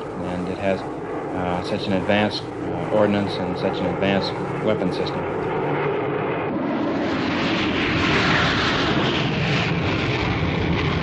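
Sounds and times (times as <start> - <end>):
jet engine rushing: 0.0 - 11.0.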